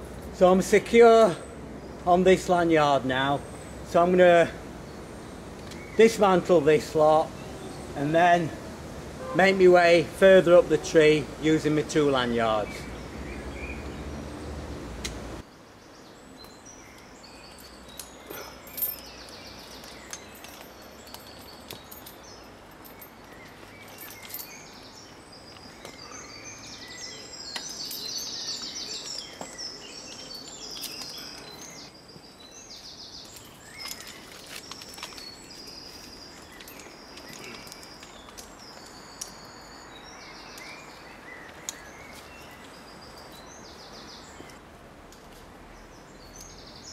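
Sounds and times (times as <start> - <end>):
low background hiss: 0.0 - 46.9
small birds chirping and trilling: 0.4 - 8.6, 9.4 - 44.6, 45.7 - 46.9.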